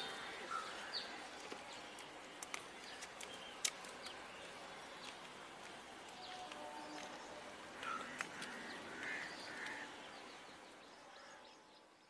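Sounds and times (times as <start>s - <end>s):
birds calling: 0.0s - 5.5s, 6.1s - 11.7s
outdoor ambience: 0.0s - 12.0s.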